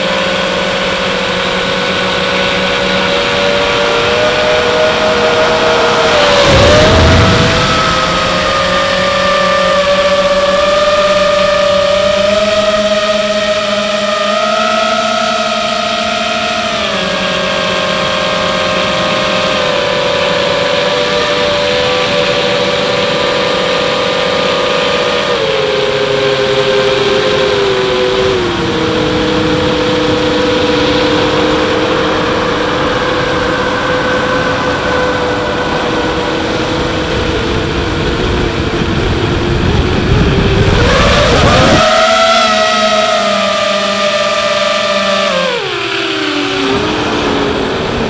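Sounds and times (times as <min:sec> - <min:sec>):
drone motors and propellers whining: 0:00.0 - 0:48.0.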